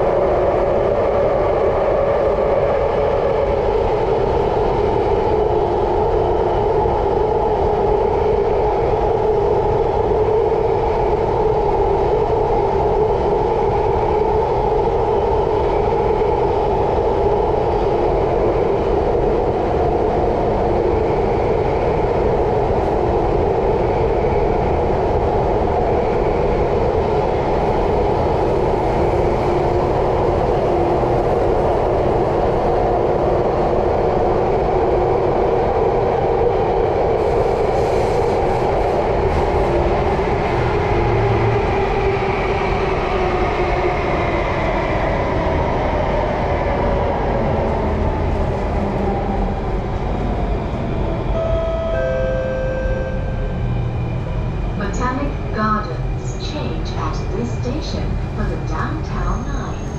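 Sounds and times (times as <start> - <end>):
train rumble and hum: 0.0 - 59.9.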